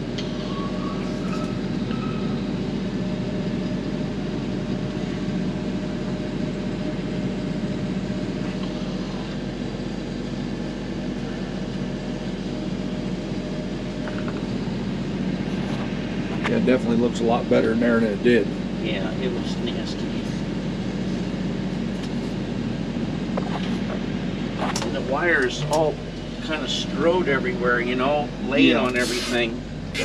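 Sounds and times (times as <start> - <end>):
faint steady whine: 0.0 - 30.0
machine motor drone: 0.0 - 30.0.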